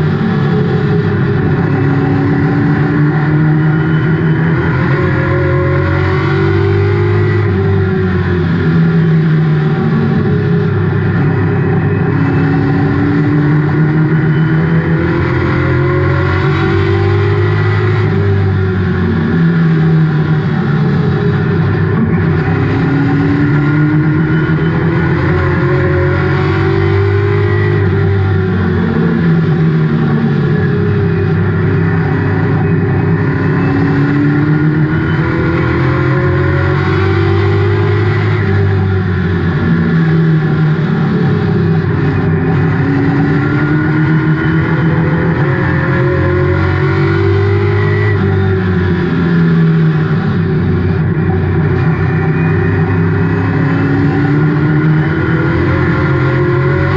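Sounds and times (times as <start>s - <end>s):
race car engine accelerating: 0.0s - 56.9s.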